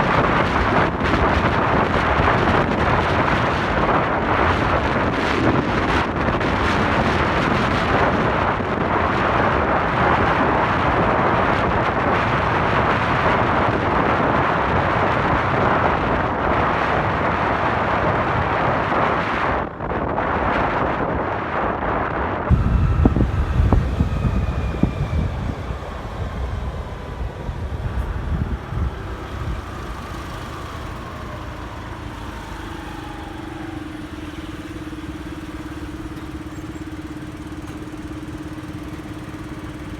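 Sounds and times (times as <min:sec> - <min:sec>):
motorcycle engine rumble: 0:00.0 - 0:39.9
wind rushing over microphone: 0:00.0 - 0:39.9.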